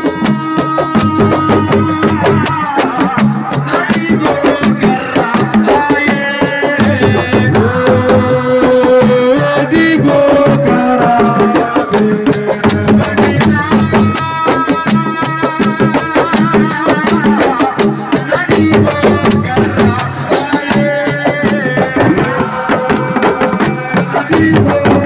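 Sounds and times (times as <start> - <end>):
hand drums and rattles: 0.0 - 25.0.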